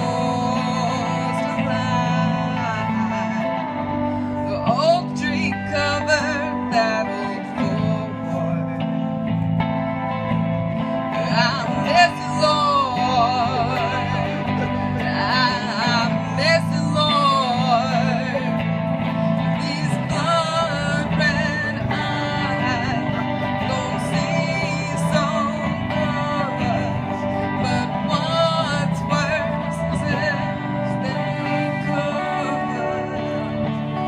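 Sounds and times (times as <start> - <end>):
woman singing into microphone: 0.0 - 9.0, 10.7 - 34.0
strummed electric guitar: 0.0 - 34.0.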